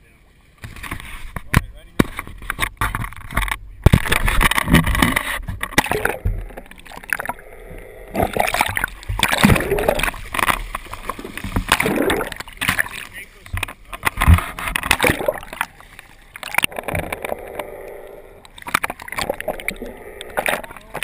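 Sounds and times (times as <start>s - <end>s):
water splashing and gurgling: 0.5s - 21.0s.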